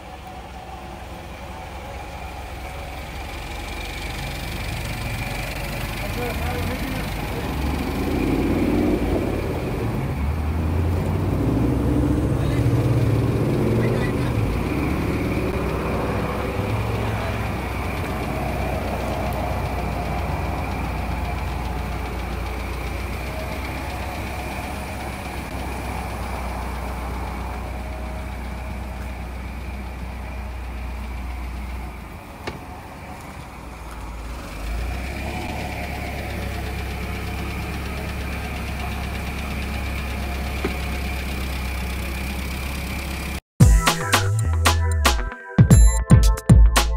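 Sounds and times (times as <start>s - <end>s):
forklift engine humming: 0.0s - 43.4s.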